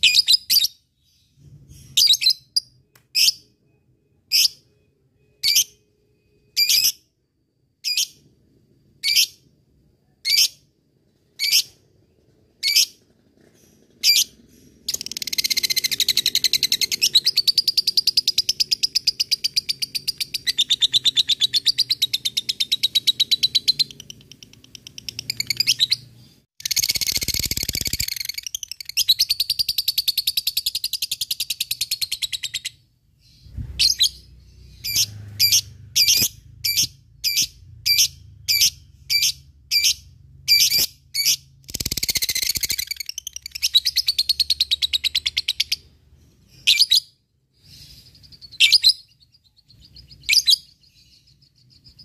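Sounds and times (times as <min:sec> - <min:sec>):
lovebird chirping and trilling: 0:00.0 - 0:07.1, 0:07.8 - 0:09.5, 0:10.1 - 0:52.0.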